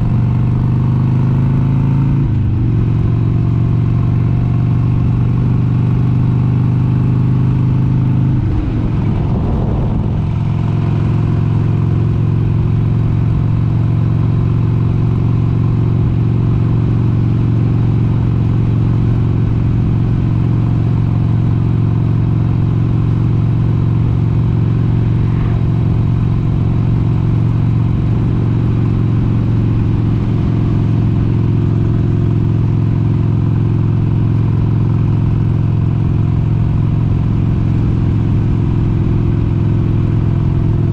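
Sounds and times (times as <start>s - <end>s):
motorcycle engine at road speed: 0.0s - 40.9s.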